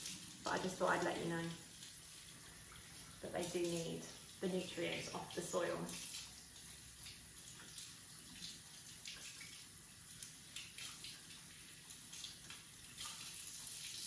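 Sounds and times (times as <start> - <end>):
faint water running from tap: 0.0 - 14.0.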